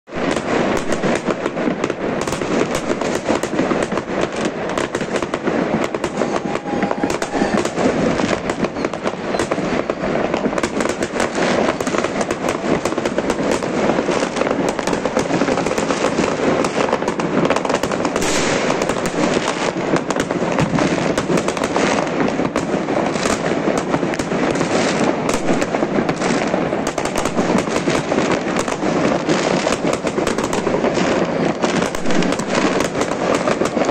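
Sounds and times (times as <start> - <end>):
fireworks crackling and banging: 0.0 - 33.9.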